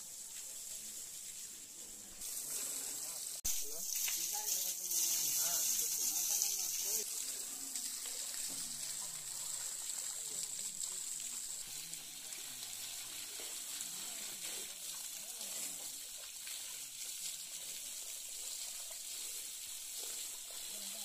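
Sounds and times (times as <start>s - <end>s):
water spraying and splashing: 0.0s - 21.0s.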